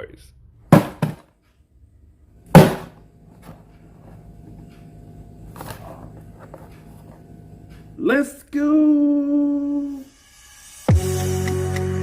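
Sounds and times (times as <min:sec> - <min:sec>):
low steady hum: 0:00.0 - 0:10.1.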